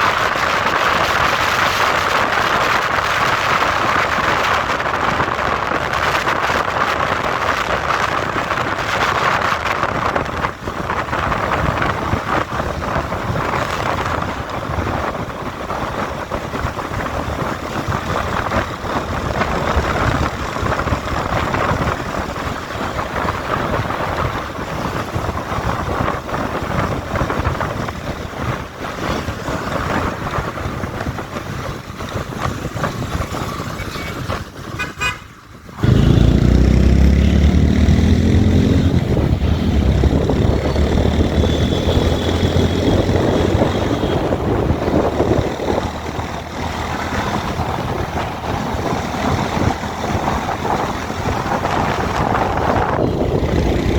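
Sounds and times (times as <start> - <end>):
motorcycle wind and road noise: 0.0 - 53.9
wind buffeting microphone: 0.0 - 53.9.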